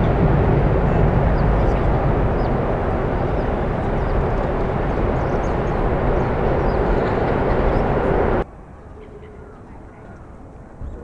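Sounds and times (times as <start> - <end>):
electric train rumbling over bridge: 0.0 - 11.0.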